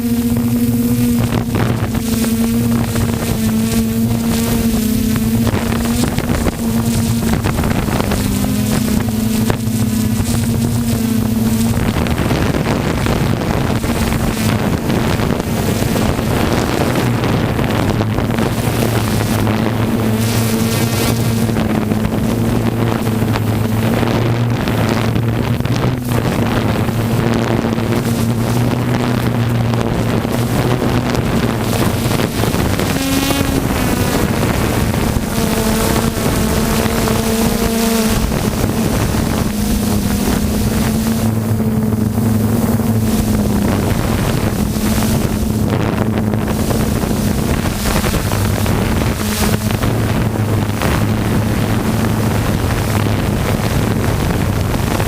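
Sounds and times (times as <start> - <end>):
engine droning: 0.0 - 55.0
wind buffeting microphone: 0.0 - 55.0.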